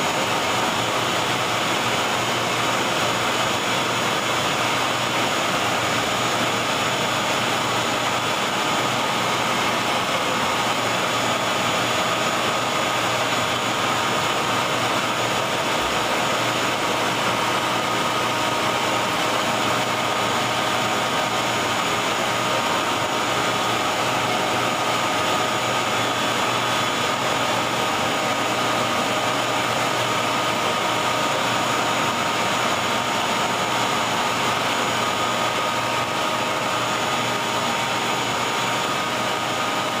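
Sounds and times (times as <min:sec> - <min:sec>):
router spindle and vacuum whirring: 0:00.0 - 0:40.0.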